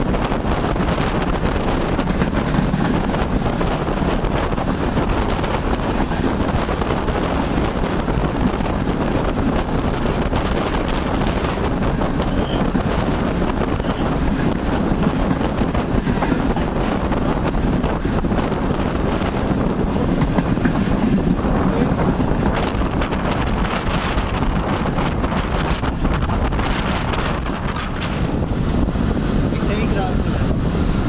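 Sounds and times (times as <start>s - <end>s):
train running at speed: 0.0s - 31.0s
wind buffeting microphone: 0.0s - 31.0s.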